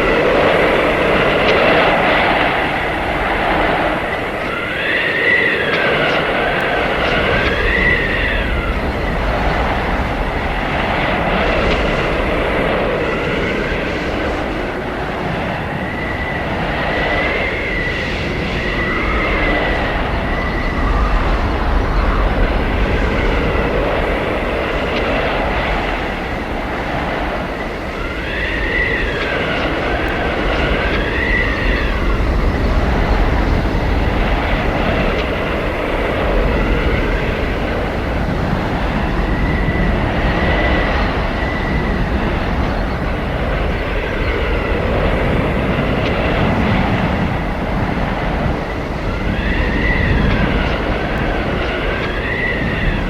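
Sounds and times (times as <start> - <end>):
blizzard wind howling: 0.0 - 53.0
thin whistling wind tone: 0.0 - 53.0.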